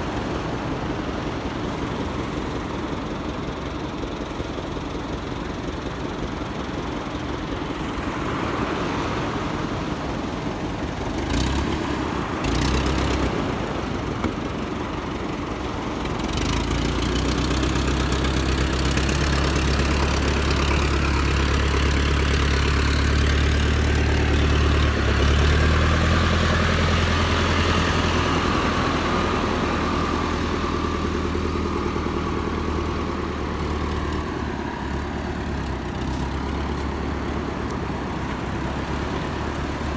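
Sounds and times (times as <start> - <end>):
surf on the beach: 0.0 - 39.9
tractor engine idling: 0.0 - 39.9.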